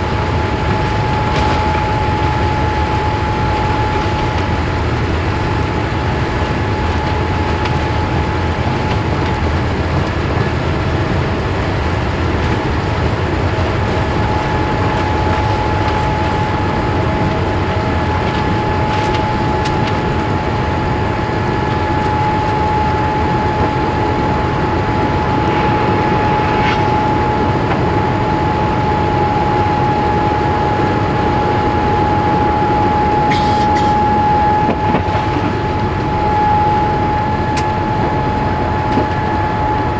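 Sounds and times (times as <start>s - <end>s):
aircraft cabin rumble and hiss: 0.0s - 39.9s
constant high whine: 0.0s - 39.9s.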